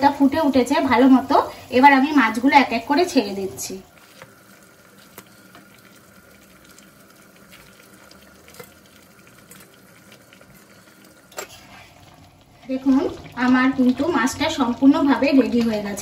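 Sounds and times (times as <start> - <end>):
curry bubbling: 0.0 - 16.0.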